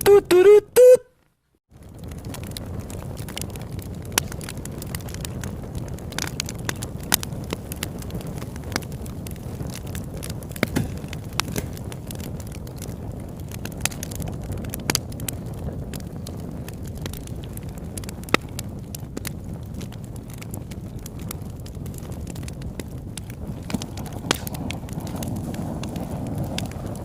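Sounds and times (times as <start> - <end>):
campfire crackling and popping: 0.4 - 27.0
low rush of flame: 1.7 - 27.0.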